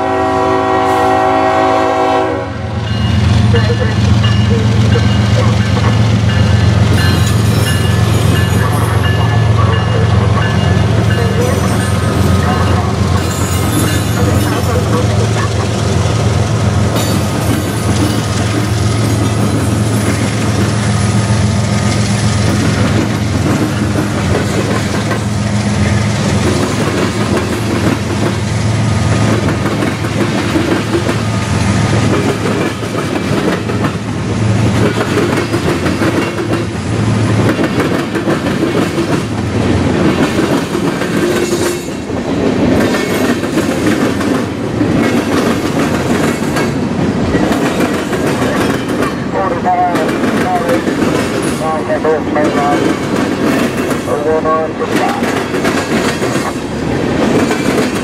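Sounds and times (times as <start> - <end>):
diesel locomotive drone: 0.0 - 58.0.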